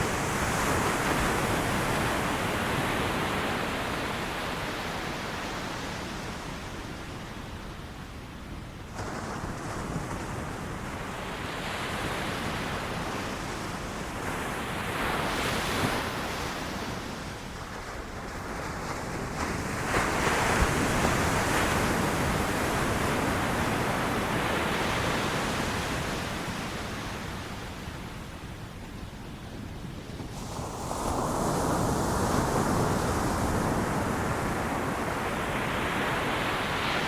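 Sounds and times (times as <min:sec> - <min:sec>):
ocean waves breaking on beach: 0:00.0 - 0:37.0.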